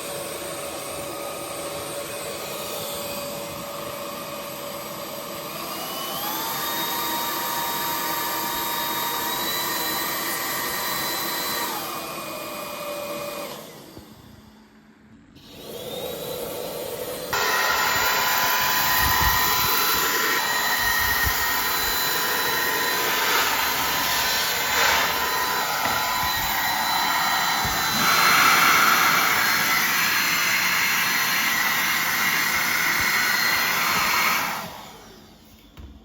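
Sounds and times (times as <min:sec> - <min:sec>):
cordless vacuum whining: 0:00.0 - 0:36.0.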